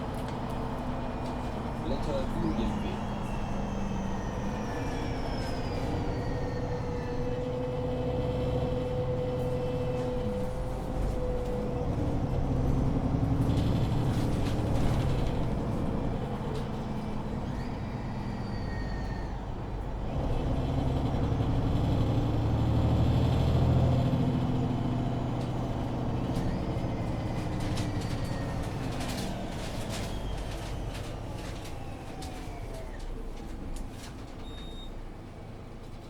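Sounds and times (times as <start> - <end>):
bus engine accelerating: 0.0 - 36.0.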